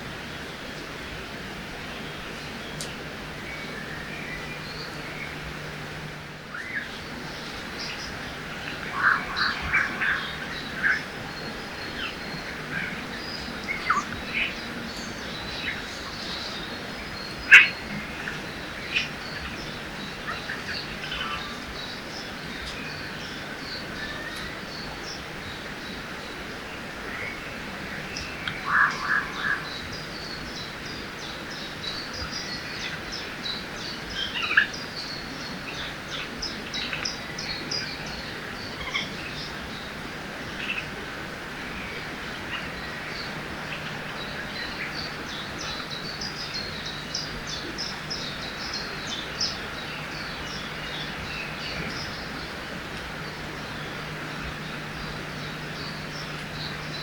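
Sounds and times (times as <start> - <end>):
river rushing: 0.0 - 57.0
small birds chirping: 1.8 - 57.0.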